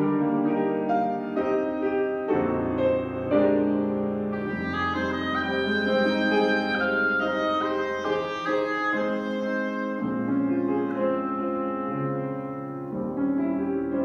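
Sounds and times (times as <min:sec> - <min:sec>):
oboe melody: 0:00.0 - 0:14.0
piano accompaniment: 0:00.0 - 0:14.0.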